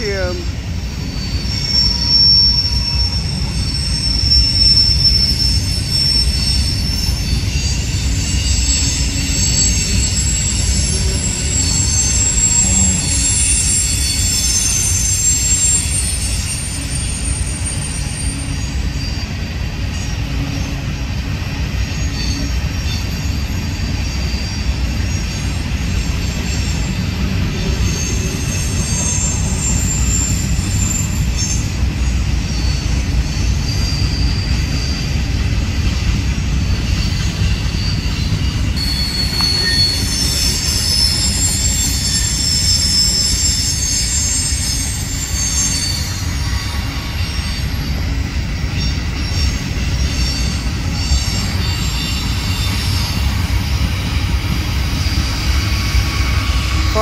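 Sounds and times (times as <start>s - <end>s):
high-pitched wheel squeal: 0.0s - 20.8s, 21.8s - 57.0s
train wheels rumbling on rail: 0.0s - 57.0s.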